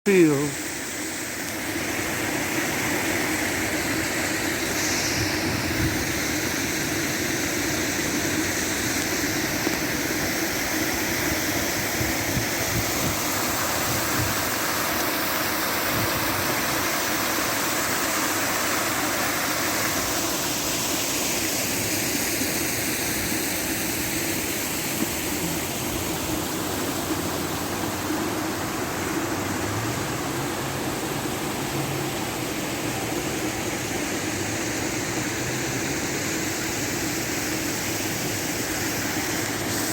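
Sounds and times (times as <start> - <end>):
fountain splashing: 0.1 - 39.9.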